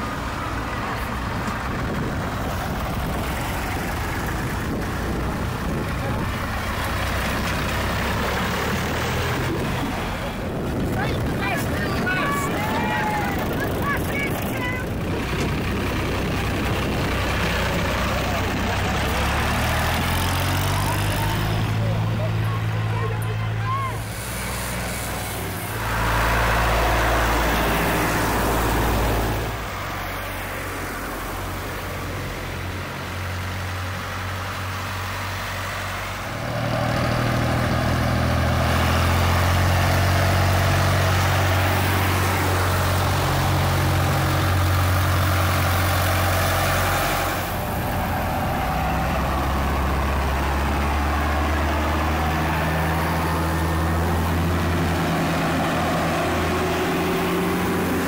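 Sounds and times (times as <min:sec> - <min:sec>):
tractor engines driving past: 0:00.0 - 0:58.0.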